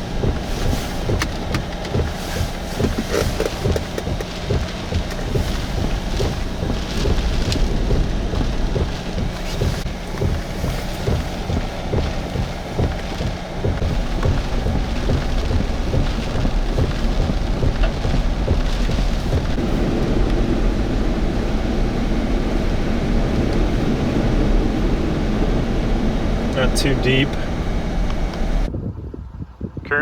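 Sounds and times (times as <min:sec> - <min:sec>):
heavy rain: 0:00.0 - 0:28.7
gusty wind rumble: 0:00.0 - 0:30.0.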